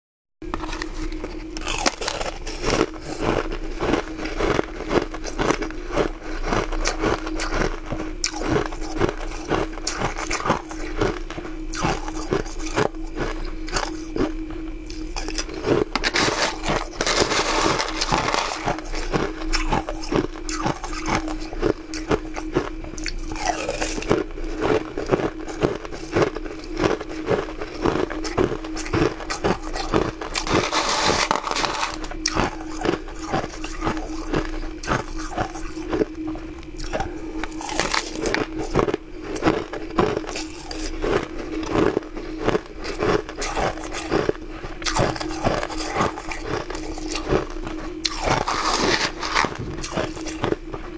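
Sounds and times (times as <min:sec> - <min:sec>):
steady hum: 0:00.4 - 0:50.9
crunching ice shavings: 0:00.5 - 0:50.9.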